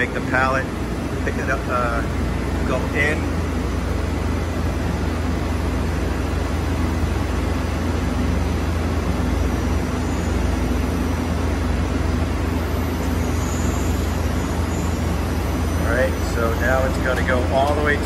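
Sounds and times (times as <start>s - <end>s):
faint high whine: 0.0s - 18.0s
pallet changer machine hum: 0.0s - 18.0s.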